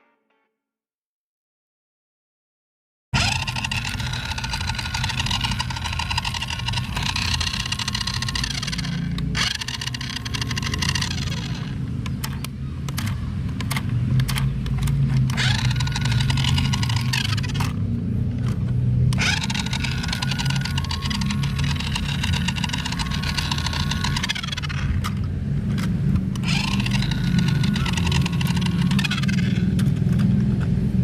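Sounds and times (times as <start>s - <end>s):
small electric toy motor whining: 3.2s - 30.4s.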